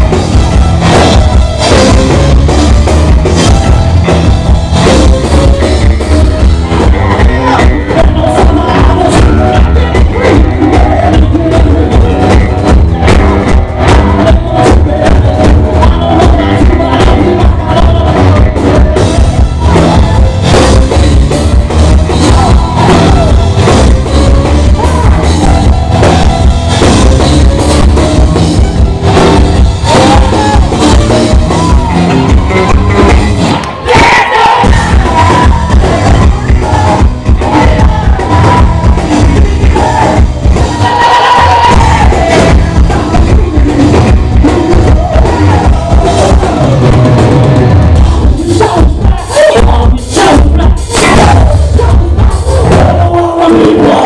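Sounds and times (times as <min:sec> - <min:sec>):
live rock band playing: 0:00.0 - 0:54.0
pounding drum kit: 0:00.0 - 0:54.0.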